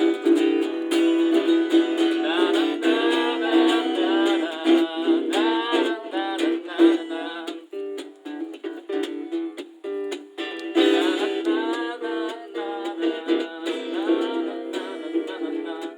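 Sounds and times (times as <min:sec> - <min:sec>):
acoustic guitar: 0:00.0 - 0:15.9
person singing: 0:00.0 - 0:15.9.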